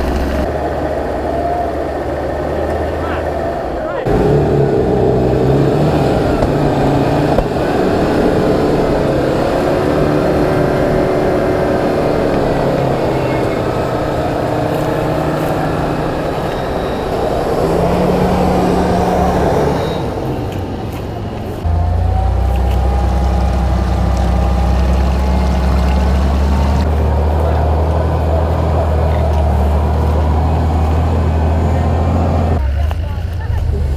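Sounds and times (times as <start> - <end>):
suv engine revving: 0.0 - 33.9.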